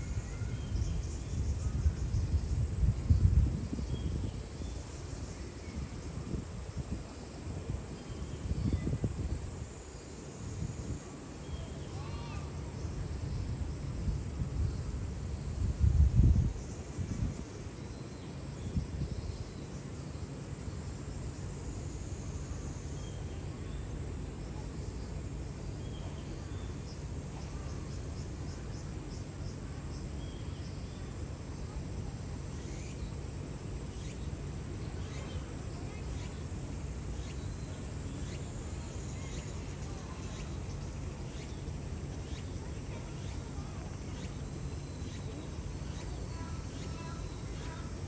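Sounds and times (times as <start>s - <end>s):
faint insect chirring: 0.0s - 48.0s.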